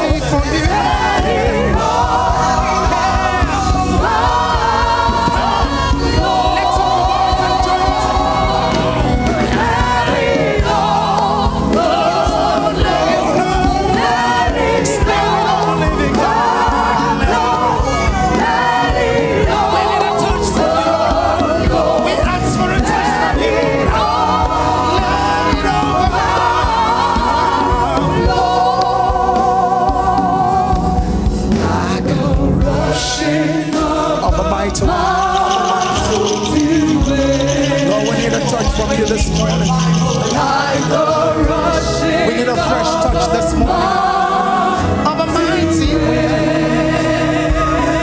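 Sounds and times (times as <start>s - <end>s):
gospel choir singing: 0.0s - 48.0s
live band with drums: 0.0s - 48.0s.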